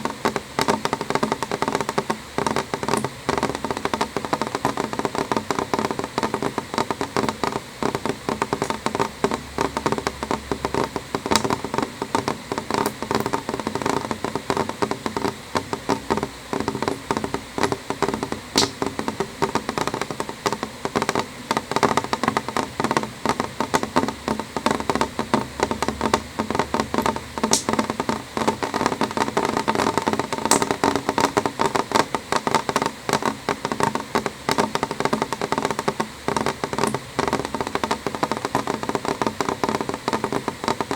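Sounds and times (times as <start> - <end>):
rain pattering on window glass: 0.0 - 40.9
sharp raindrop ticks: 0.0 - 40.9.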